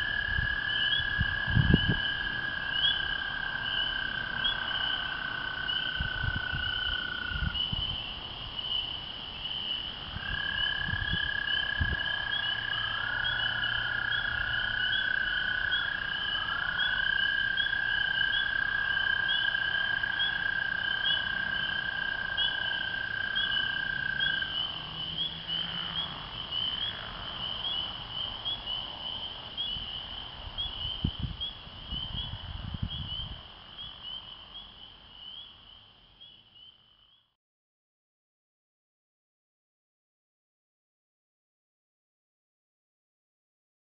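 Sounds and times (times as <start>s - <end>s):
toads trilling: 0.0s - 37.3s
frogs peeping in chorus: 0.0s - 37.4s.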